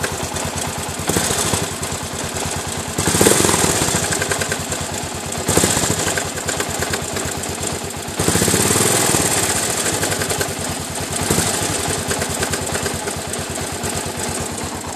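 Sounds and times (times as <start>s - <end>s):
motorcycle engine knocking: 0.0s - 14.9s.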